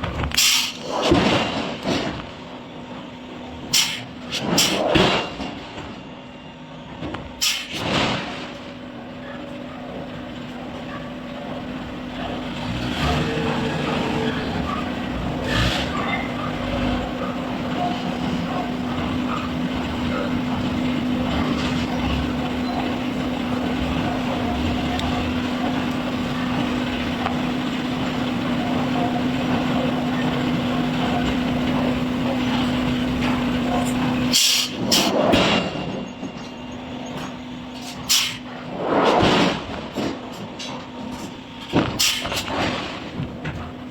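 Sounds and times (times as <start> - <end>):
industrial machinery humming: 0.0 - 43.9.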